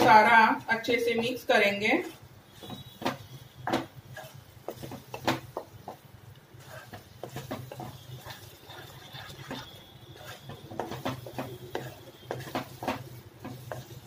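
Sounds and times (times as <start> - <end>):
spatula scraping a pan: 0.0 - 14.0.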